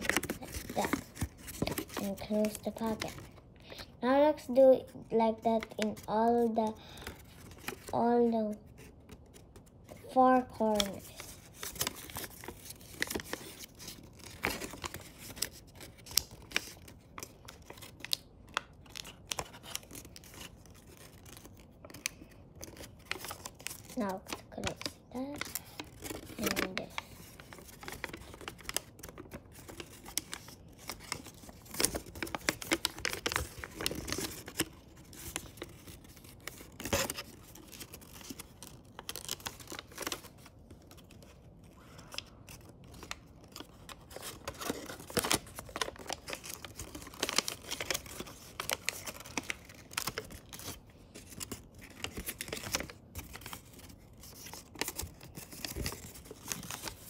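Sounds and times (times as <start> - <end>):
paper crinkling and rustling: 0.0 - 4.6, 5.2 - 57.0.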